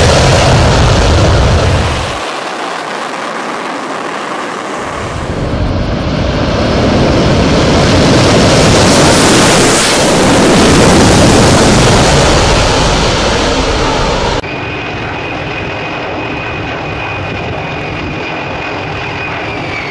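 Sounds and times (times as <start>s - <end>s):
fighter jet engine roaring: 0.0s - 19.9s.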